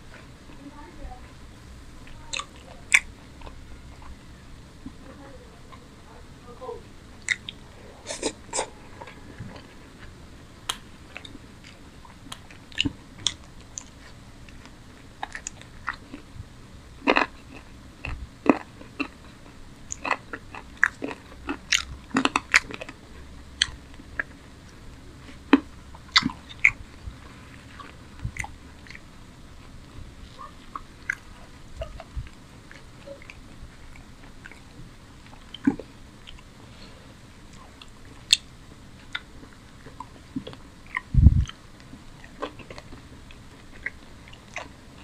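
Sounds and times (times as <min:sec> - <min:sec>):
food crunching: 0:01.4 - 0:05.9, 0:07.0 - 0:16.4, 0:17.0 - 0:45.0
man chewing and smacking: 0:02.0 - 0:05.0, 0:07.0 - 0:16.4, 0:17.0 - 0:45.0.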